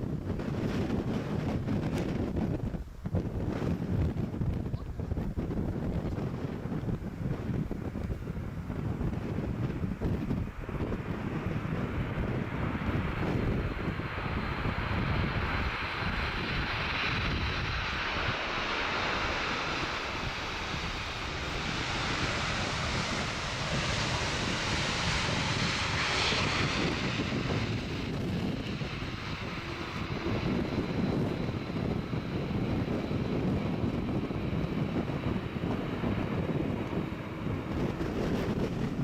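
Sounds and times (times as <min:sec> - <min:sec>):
wind rumbling on microphone: 0:00.0 - 0:39.0
jet engines roaring: 0:00.1 - 0:39.0.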